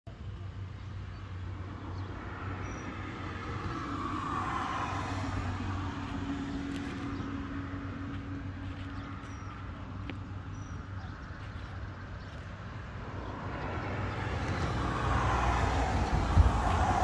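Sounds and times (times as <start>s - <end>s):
traffic hum: 0.0s - 17.0s
vehicle passing: 1.0s - 17.0s.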